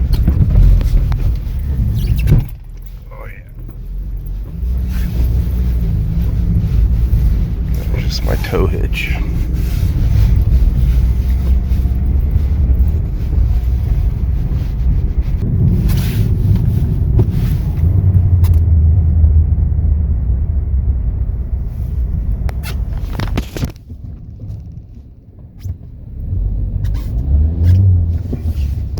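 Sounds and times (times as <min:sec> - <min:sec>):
car engine and tyres rumbling: 0:00.0 - 0:28.9.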